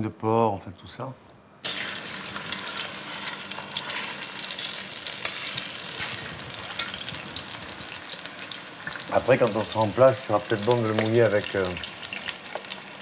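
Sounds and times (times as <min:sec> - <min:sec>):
pork sizzling in hot oil: 0:01.6 - 0:13.0.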